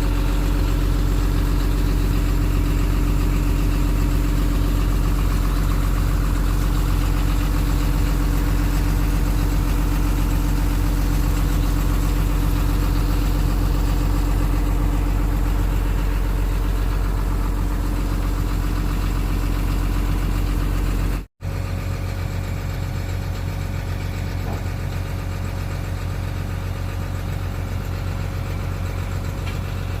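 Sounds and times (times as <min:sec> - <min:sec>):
excavator diesel engine idling: 0:00.0 - 0:30.0.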